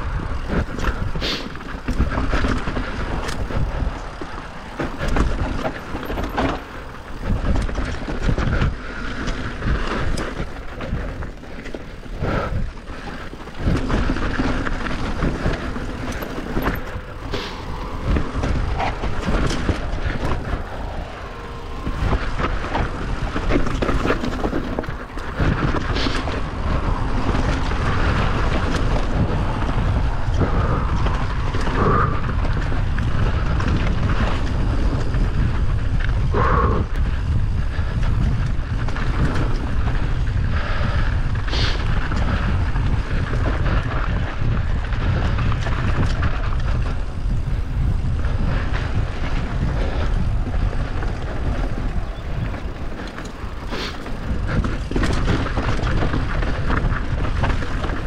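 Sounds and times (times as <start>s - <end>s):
bike rushing down rough trail: 0.0s - 58.0s.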